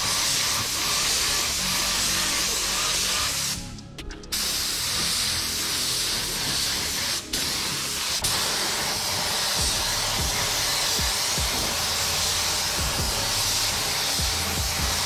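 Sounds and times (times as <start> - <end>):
spray gun hissing: 0.0 - 3.6, 4.3 - 15.0.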